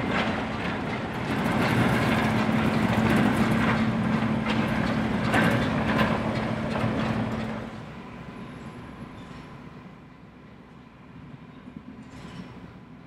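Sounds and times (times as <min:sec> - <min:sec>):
train wheels clicking over rail joints: 0:00.0 - 0:09.9, 0:11.8 - 0:13.0
diesel locomotive engine humming: 0:00.0 - 0:12.0.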